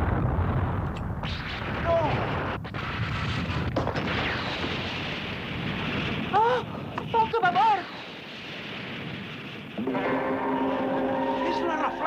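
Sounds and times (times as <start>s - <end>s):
cartoon explosion rumble: 0.0s - 10.9s.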